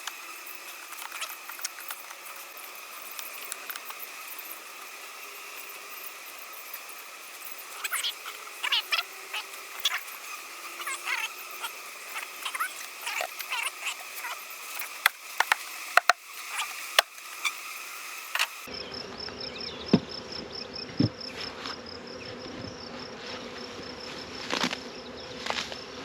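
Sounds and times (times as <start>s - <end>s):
honeybee swarm buzzing: 0.0s - 26.0s.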